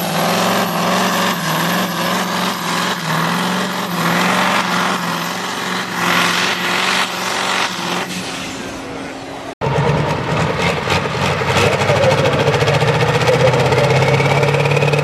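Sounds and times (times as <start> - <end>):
tractor engine running loud: 0.0 - 15.0.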